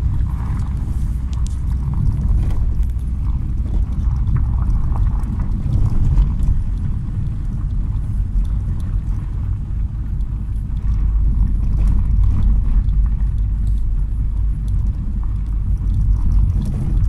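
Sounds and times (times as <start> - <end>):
car engine and tyres rumbling: 0.0 - 17.0
gravel ticking under wheels: 0.0 - 17.0.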